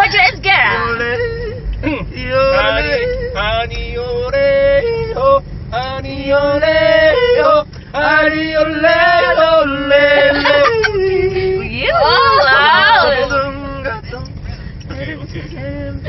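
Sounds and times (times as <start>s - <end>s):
man yodeling: 0.0s - 14.4s.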